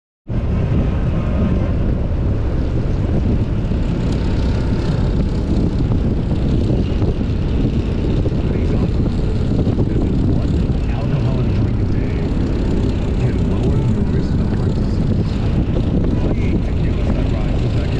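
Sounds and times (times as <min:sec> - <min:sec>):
motorcycle engine drone: 0:00.3 - 0:17.9
wind buffeting microphone: 0:00.3 - 0:17.9.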